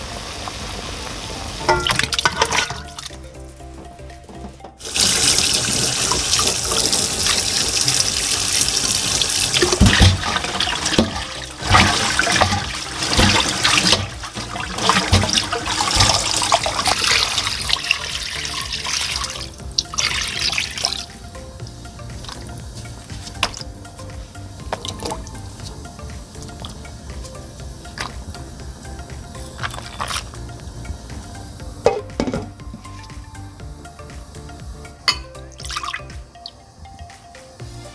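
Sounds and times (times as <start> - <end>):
tap water running and splashing: 0.0 - 3.2, 4.8 - 33.3, 34.1 - 36.3.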